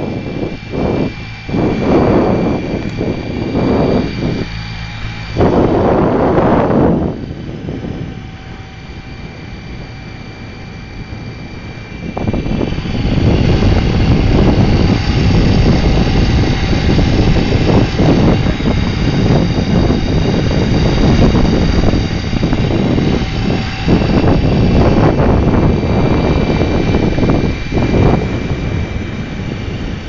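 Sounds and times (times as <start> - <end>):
motor drone: 0.0 - 30.0
wind buffeting microphone: 0.0 - 30.0.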